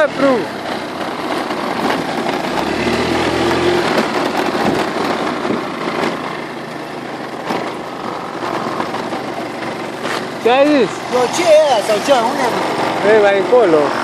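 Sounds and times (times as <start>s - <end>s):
scooter engine running: 0.0s - 14.0s
tyres on gravel and rattle: 0.0s - 14.0s.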